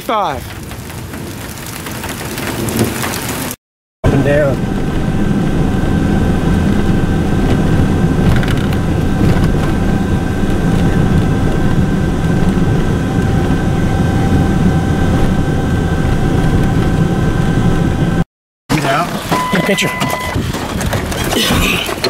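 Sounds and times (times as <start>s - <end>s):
road rumble: 0.0s - 22.0s
car engine running: 4.1s - 22.0s.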